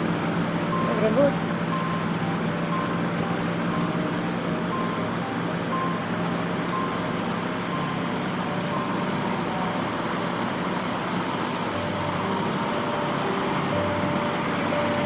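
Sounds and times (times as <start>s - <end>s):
moving car road and engine noise: 0.0s - 15.0s.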